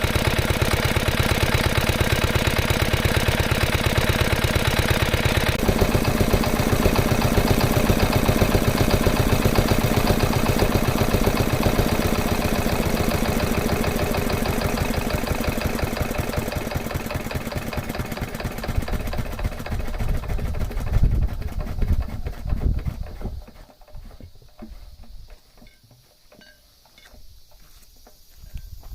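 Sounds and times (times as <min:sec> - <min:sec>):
diesel engine running: 0:00.0 - 0:24.7.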